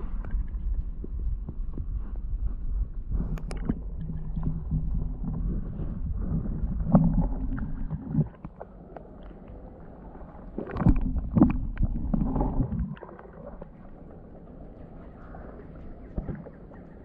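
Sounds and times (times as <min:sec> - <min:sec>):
underwater rumbling and sloshing: 0:00.0 - 0:17.0.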